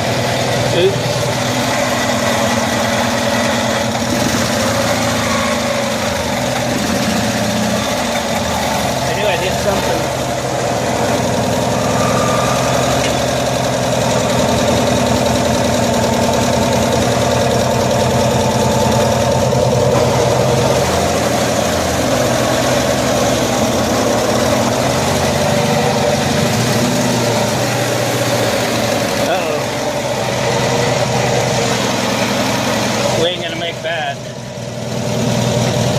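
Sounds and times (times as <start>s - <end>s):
utility vehicle engine running: 0.0s - 35.9s.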